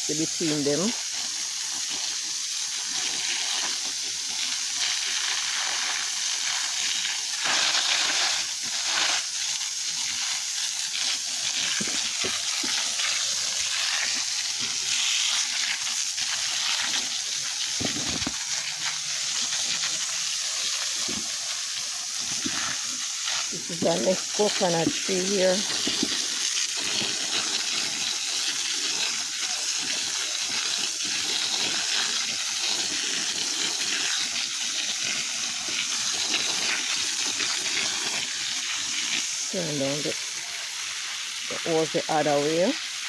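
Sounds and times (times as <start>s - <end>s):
garden hose spraying water: 0.0s - 43.0s.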